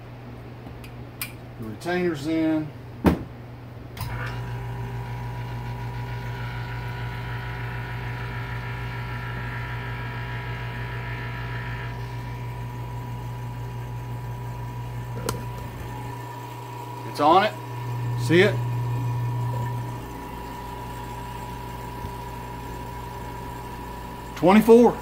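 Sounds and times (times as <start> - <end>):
vacuum pump humming: 4.0 - 25.0.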